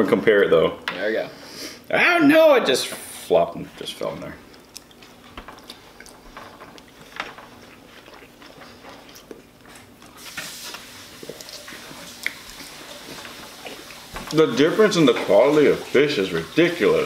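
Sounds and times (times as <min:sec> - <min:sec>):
people chewing: 0:03.0 - 0:17.0.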